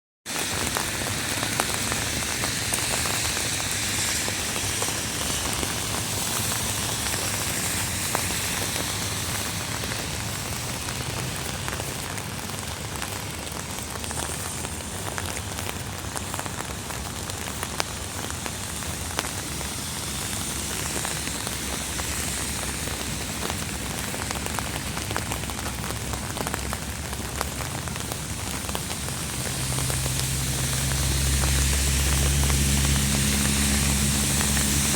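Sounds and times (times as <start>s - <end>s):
raindrop impacts: 0.3s - 34.9s
steady rain hiss: 0.3s - 34.9s.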